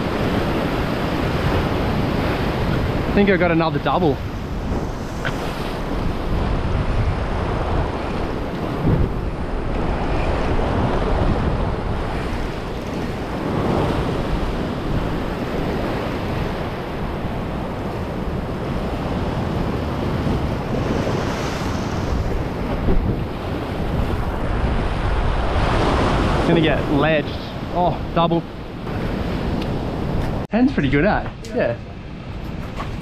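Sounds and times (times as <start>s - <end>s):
ocean surf washing over rocks: 0.0s - 30.5s
wind buffeting microphone: 0.0s - 33.0s.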